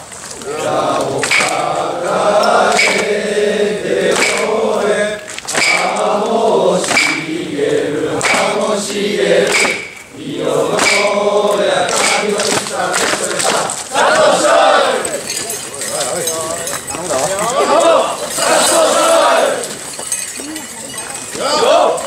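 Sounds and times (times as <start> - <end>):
crowd chanting: 0.4 - 15.4, 17.0 - 19.9, 21.3 - 22.0.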